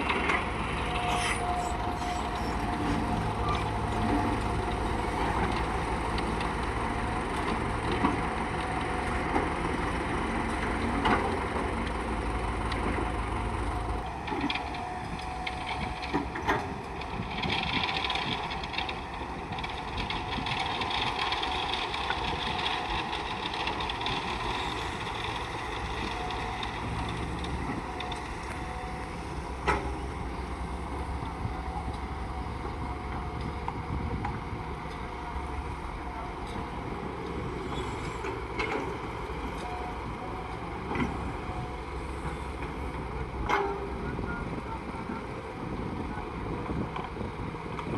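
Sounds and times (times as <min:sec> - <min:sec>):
heavy machine engine rumbling: 0:00.0 - 0:47.9.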